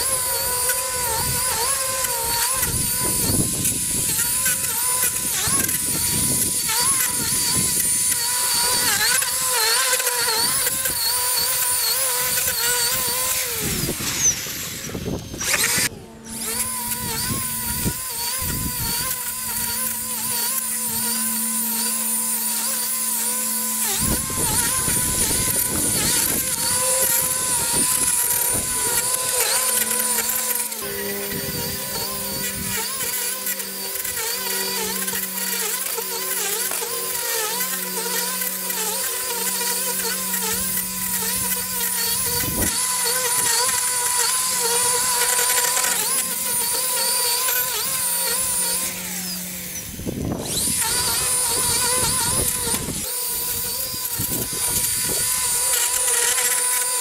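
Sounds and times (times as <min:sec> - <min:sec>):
electric lawn equipment motor whine: 0:00.0 - 0:57.0.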